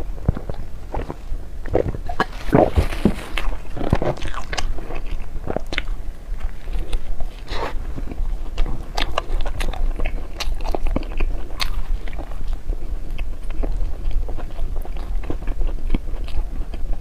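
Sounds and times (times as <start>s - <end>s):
biting and chewing: 0.0s - 17.0s.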